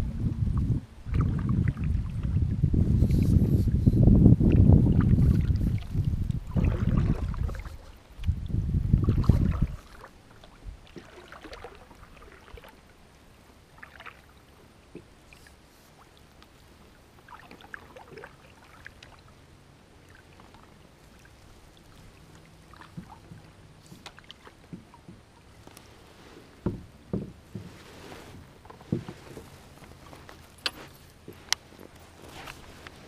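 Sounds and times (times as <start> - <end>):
paddle splashing water: 1.0 - 33.0.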